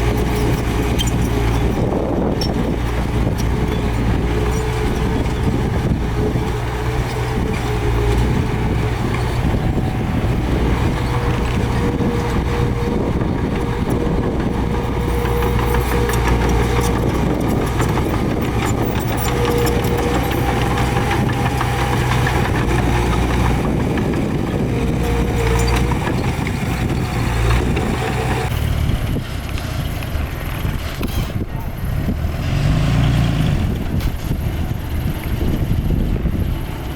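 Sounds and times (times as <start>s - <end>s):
diesel engine drone: 0.0s - 36.9s.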